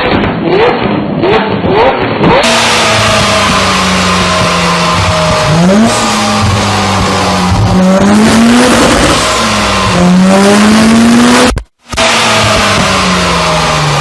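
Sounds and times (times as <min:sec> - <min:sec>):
car engine accelerating: 0:00.4 - 0:14.0.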